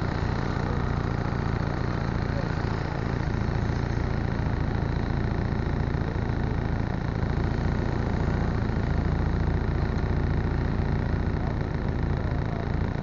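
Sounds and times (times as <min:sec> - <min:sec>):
constant noise wash: 0:00.0 - 0:13.0
vehicle engine idling: 0:00.0 - 0:13.0.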